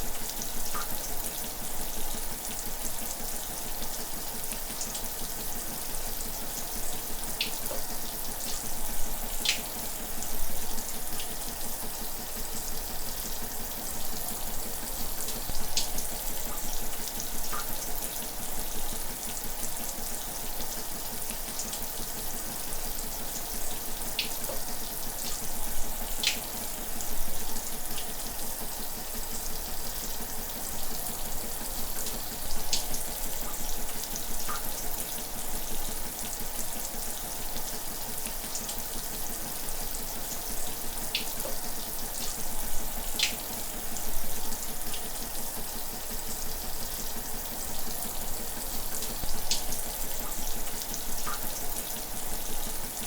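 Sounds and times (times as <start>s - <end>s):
shower water running: 0.0s - 53.0s
water drips and splats: 0.2s - 53.0s.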